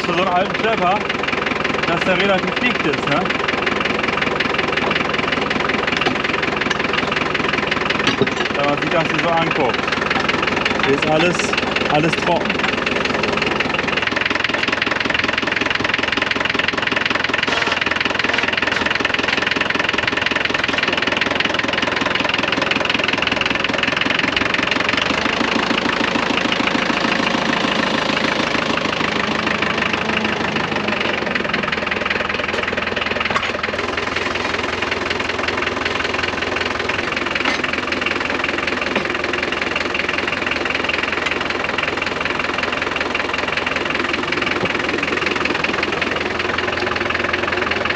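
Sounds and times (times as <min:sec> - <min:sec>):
tractor diesel engine idling: 0:00.0 - 0:47.9.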